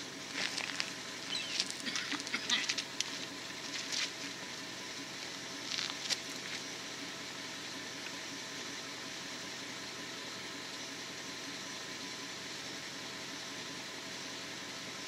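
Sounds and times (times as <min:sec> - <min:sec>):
pickup truck engine idling: 0:00.0 - 0:15.0.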